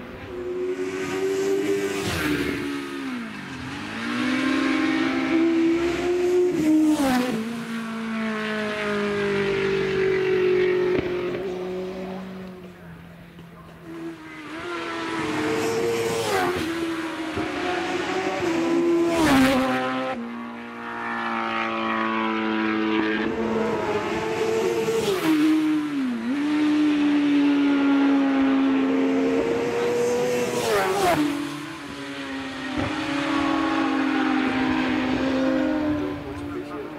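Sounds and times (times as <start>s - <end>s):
racing motorcycles passing at speed: 0.0s - 36.9s.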